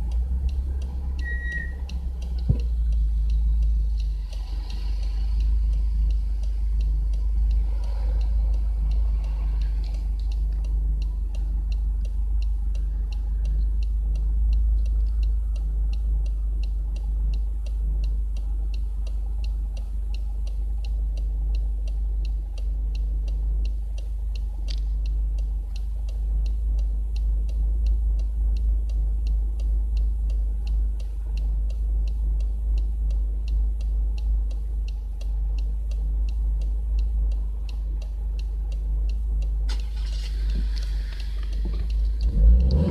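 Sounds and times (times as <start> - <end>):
car engine and exhaust rumbling: 0.0 - 42.9
light regular ticking: 0.0 - 42.9.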